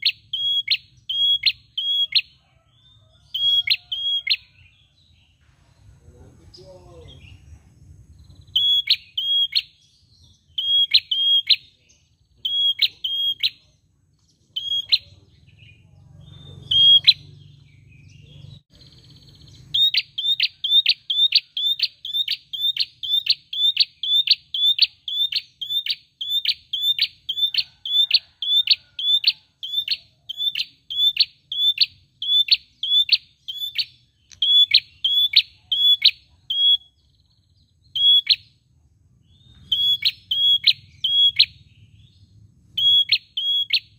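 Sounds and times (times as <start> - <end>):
bird calling with sharp high notes: 0.0 - 5.0, 8.2 - 43.9.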